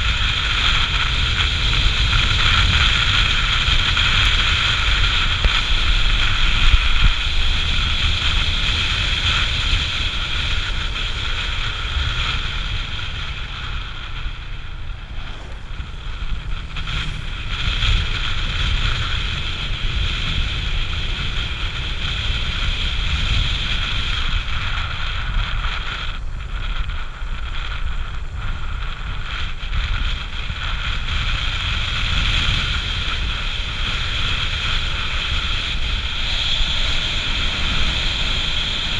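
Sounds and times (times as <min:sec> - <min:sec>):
motorbike engine running: 0:00.0 - 0:38.9
wind buffeting microphone: 0:00.0 - 0:38.9.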